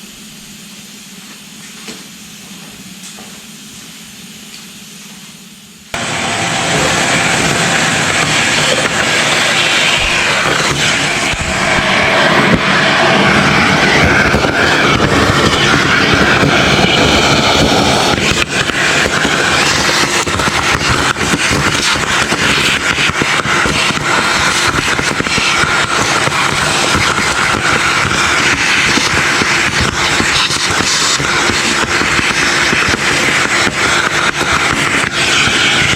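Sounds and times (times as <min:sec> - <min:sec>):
cleaning machine hissing: 0:06.0 - 0:35.9.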